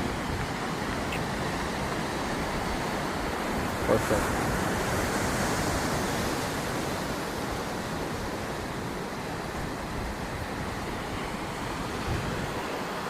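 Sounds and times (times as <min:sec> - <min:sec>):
ocean surf washing against shore: 0:00.0 - 0:13.0
wind buffeting microphone: 0:00.0 - 0:13.0.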